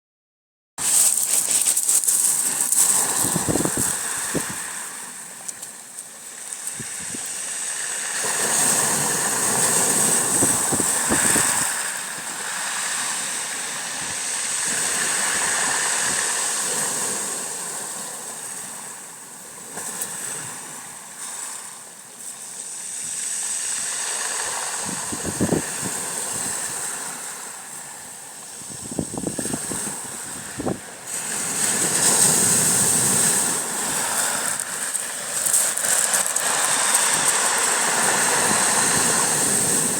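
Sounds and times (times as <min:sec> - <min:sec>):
waves washing on shore: 0:00.8 - 0:39.9.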